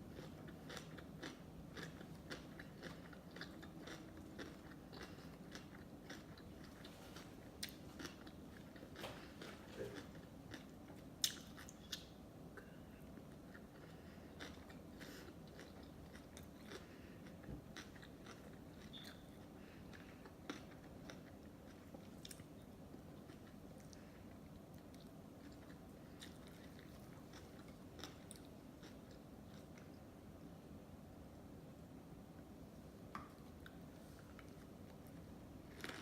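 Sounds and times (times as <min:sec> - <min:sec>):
close chewing with mouth clicks: 0:00.0 - 0:12.2, 0:13.1 - 0:30.0.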